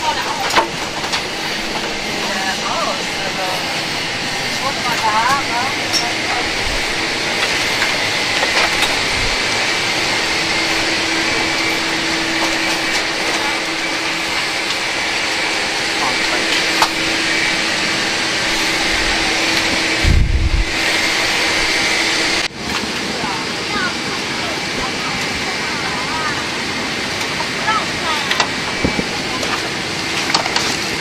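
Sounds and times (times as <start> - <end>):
murmur of voices: 0.0 - 20.0, 22.4 - 31.0
cabin air conditioning rush: 0.0 - 31.0.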